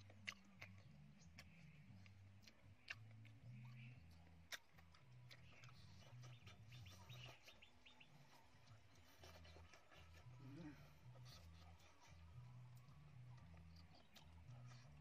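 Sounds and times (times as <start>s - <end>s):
faint low hum: 0.0s - 15.0s
soft chewing with crunches: 0.0s - 15.0s.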